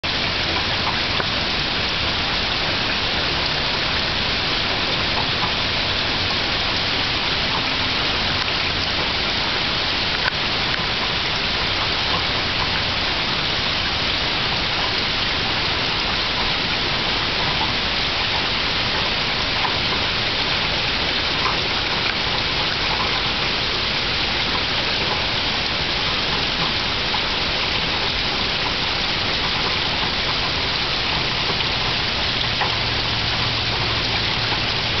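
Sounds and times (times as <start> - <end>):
rain on leaves: 0.0 - 35.0.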